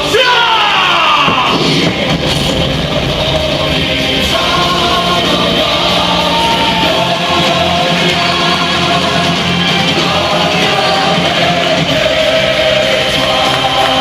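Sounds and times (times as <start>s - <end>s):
rock music with guitar: 1.4s - 13.6s.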